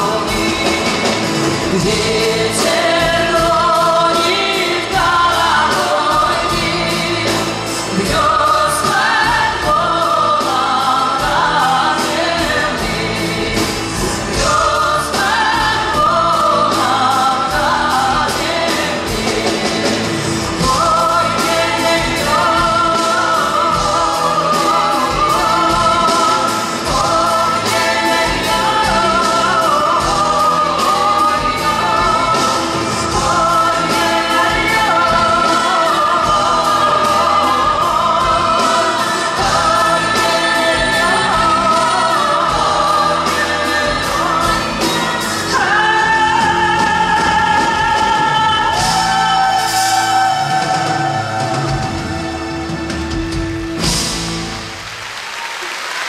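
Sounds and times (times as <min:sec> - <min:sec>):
woman singing into microphone: 0:00.0 - 0:52.1
band accompaniment: 0:00.0 - 0:56.0.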